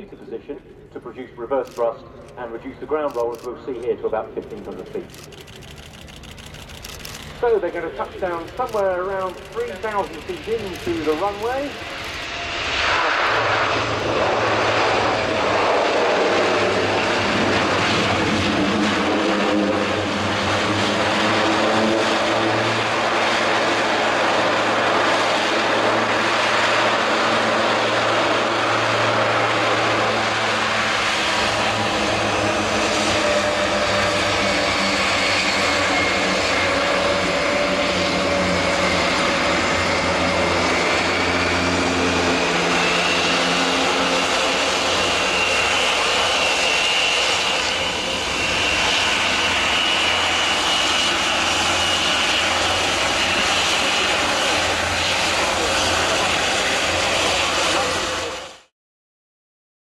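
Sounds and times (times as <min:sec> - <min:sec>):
turboprop engines in reverse thrust: 0:01.8 - 0:58.7.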